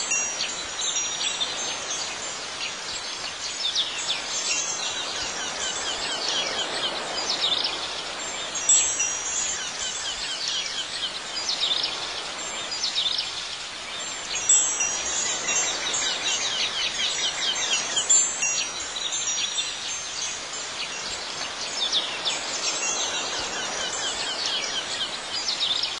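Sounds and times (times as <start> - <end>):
high tinkling chimes: 0.0 - 26.0.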